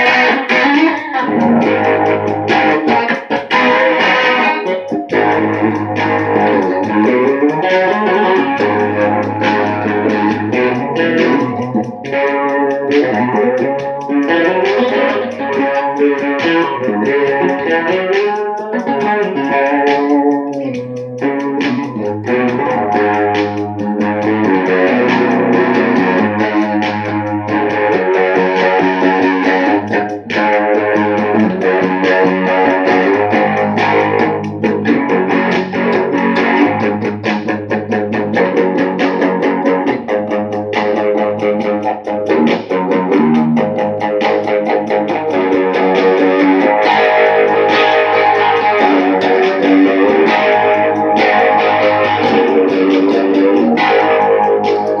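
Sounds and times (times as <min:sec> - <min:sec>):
drum beat: 0:00.0 - 0:55.0
electric guitar playing blues: 0:00.0 - 0:55.0
bass line: 0:01.2 - 0:55.0.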